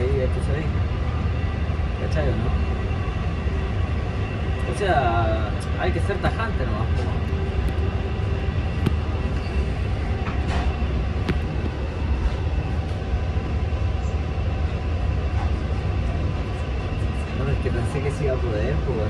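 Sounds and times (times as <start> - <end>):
train low rumble from inside: 0.0 - 19.0.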